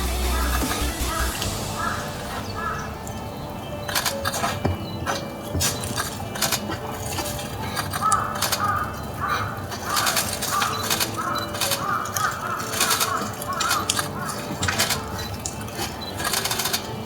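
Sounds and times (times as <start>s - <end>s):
harsh bird calls: 0.0s - 17.0s.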